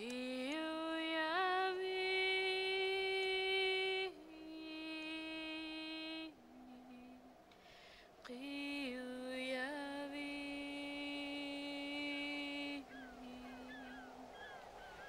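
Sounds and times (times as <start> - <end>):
woman singing wordlessly: 0.0 - 7.3, 8.3 - 14.4.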